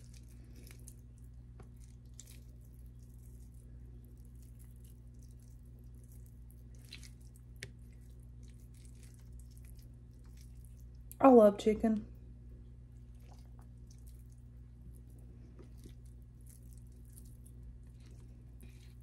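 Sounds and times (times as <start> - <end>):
wet squishing of chicken torn by hand: 0.0 - 11.1, 12.8 - 19.0
steady low hum: 0.0 - 19.0.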